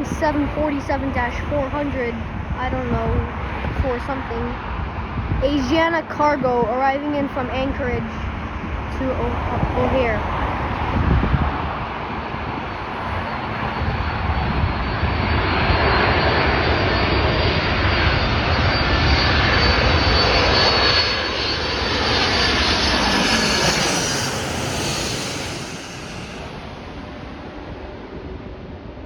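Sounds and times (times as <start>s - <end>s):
jet airplane passing: 0.0s - 29.0s.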